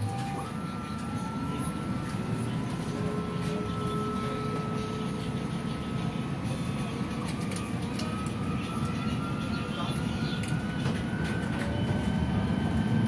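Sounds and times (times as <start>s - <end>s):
tram low rumble: 0.0s - 13.0s.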